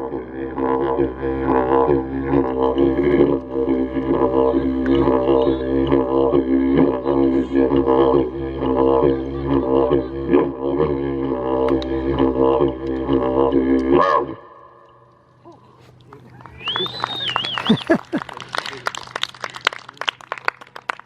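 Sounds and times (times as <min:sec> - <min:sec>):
didgeridoo drone: 0:00.0 - 0:19.5.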